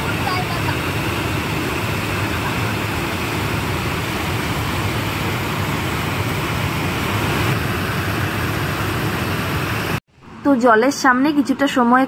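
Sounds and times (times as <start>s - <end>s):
water rushing over a weir: 0.0s - 10.0s.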